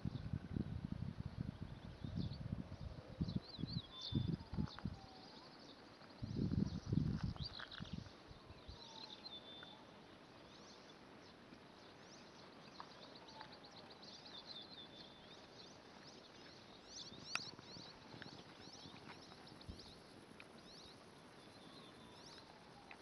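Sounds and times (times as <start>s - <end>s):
small birds chirping: 1.5s - 23.0s.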